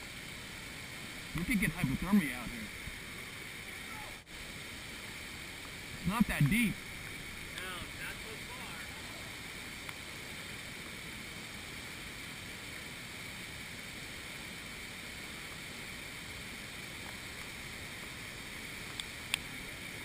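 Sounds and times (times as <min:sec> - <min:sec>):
floodwater rushing through canyon: 0:00.0 - 0:20.0.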